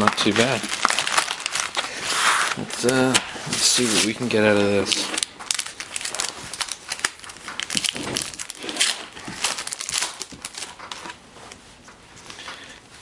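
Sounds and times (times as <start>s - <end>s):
card wrapper tearing and crinkling: 0.0s - 11.2s.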